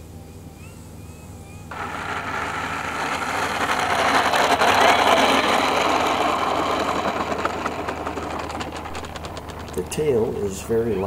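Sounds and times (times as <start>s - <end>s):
model plane touching down on asphalt: 1.7s - 11.0s
wheels rolling with rattling: 1.7s - 11.0s.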